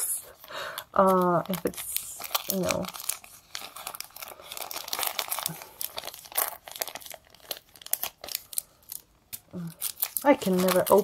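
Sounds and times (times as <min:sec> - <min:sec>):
paper packet crinkling: 0:00.0 - 0:11.0.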